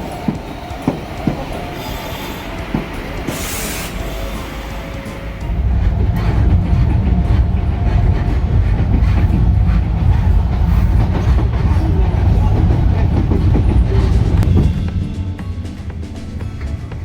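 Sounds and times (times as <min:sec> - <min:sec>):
small electric train rumbling: 0:00.0 - 0:17.0
wheels clattering over rail joints: 0:00.0 - 0:17.0.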